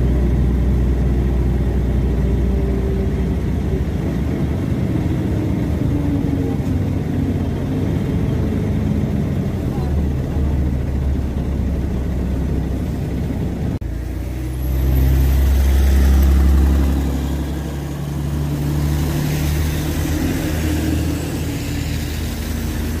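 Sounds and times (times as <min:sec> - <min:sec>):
bus diesel engine running: 0:00.0 - 0:23.0
bus pulling away: 0:00.0 - 0:23.0.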